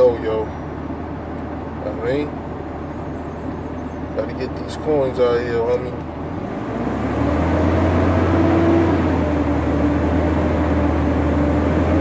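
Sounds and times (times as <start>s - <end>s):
truck diesel engine and road noise: 0.0s - 12.0s.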